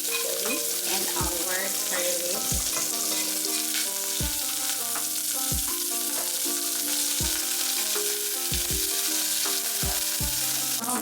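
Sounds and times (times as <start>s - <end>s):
oil sizzling in a pan: 0.0s - 11.0s
stirring in a pan: 0.0s - 11.0s.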